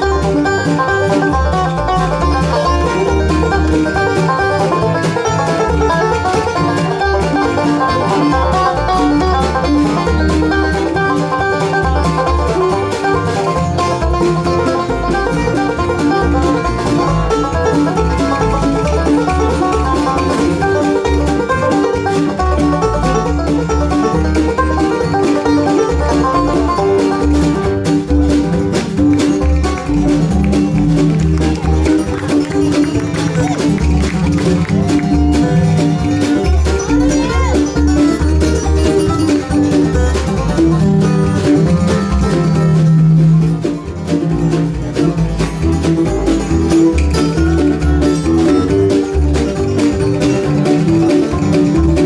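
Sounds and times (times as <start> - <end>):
banjo: 0.0 - 52.0
bluegrass band playing: 0.0 - 52.0.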